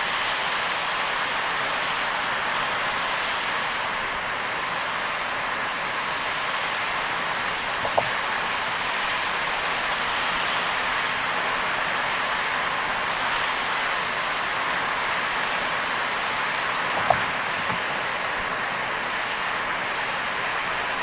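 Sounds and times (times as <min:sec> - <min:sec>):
tyres hissing on wet road: 0:00.0 - 0:21.0.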